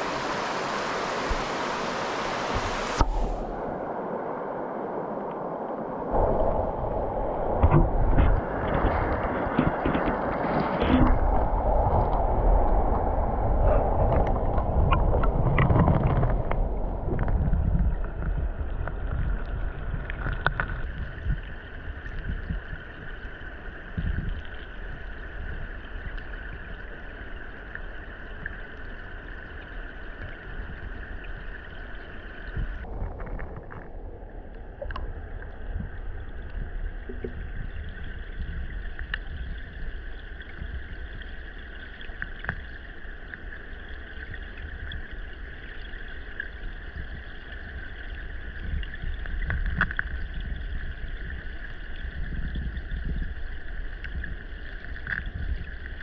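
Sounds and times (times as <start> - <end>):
stream water gurgling: 0.0 - 56.0
wind rumble on microphone: 0.0 - 56.0.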